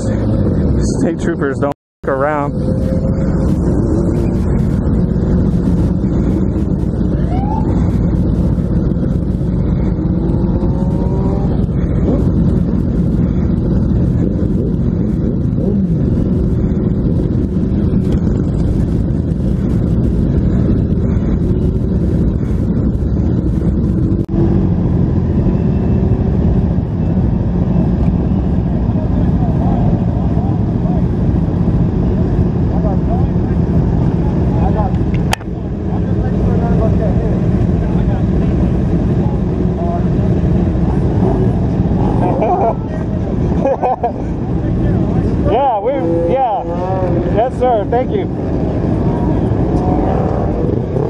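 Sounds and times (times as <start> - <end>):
motorcycle engine running: 0.0 - 51.0
wind noise on microphone: 0.0 - 51.0.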